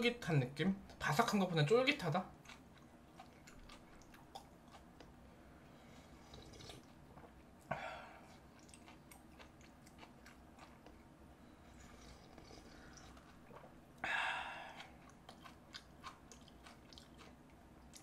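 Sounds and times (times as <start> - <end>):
close-up chewing: 2.1 - 5.2, 6.0 - 18.0.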